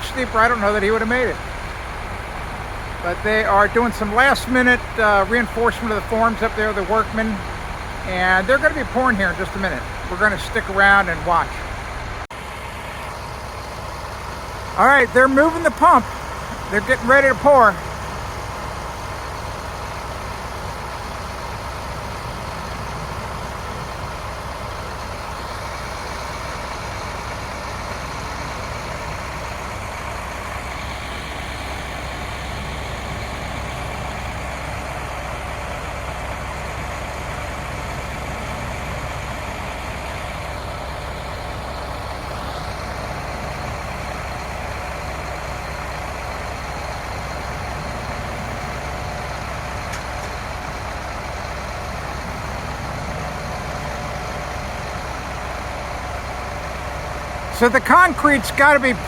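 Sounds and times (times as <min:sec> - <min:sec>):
truck diesel engines droning: 0:00.0 - 0:59.0.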